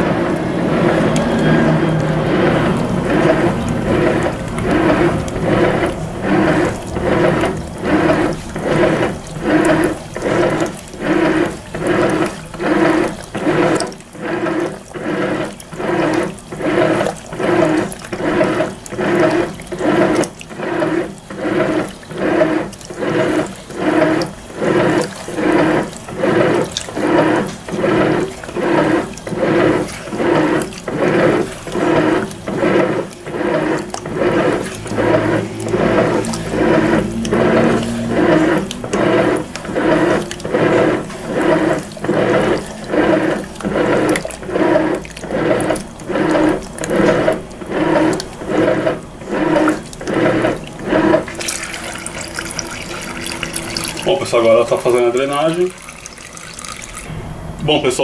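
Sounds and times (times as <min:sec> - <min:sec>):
washing machine water sloshing: 0:00.0 - 0:58.0.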